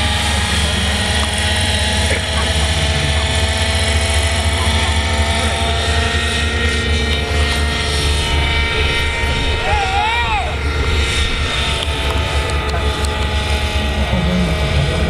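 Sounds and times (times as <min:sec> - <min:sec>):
fluttering rotor beat: 0:00.0 - 0:15.0
model helicopter engine whine: 0:00.0 - 0:15.0.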